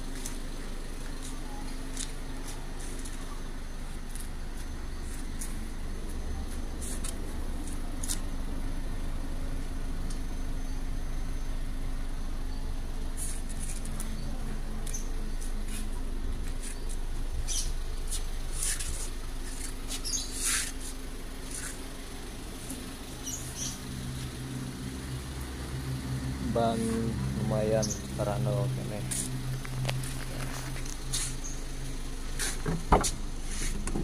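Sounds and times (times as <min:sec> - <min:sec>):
engine idling hum: 0:00.0 - 0:34.0.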